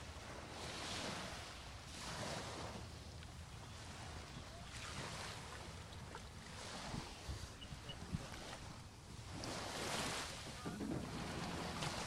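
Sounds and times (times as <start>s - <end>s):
small waves washing on sand: 0.0s - 12.0s
wind on microphone: 0.0s - 12.0s.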